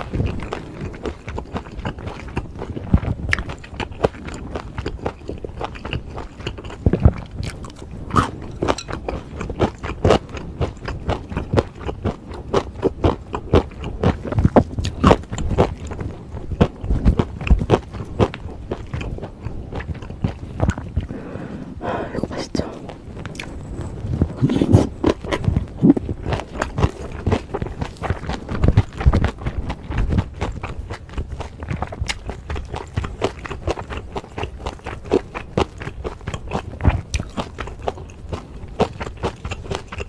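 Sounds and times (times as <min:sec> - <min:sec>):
wet chewing and smacking: 0:00.0 - 0:21.3, 0:22.8 - 0:40.0.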